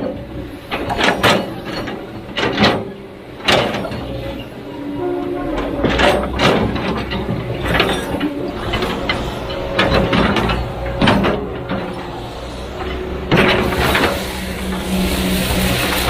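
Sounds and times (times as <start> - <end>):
diesel engine running: 0.0 - 16.0
metal clanks and scrapes: 0.0 - 16.0.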